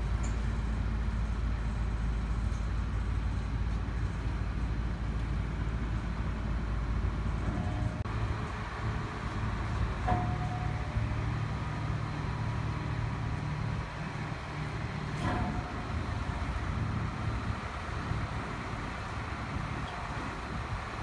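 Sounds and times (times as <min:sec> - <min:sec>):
crane diesel engine rumbling: 0:00.0 - 0:21.0.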